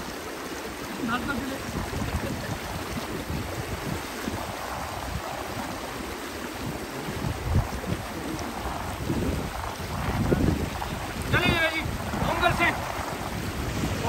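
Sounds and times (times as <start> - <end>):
stream water rushing: 0.0 - 14.0
wind buffeting microphone: 0.8 - 14.0.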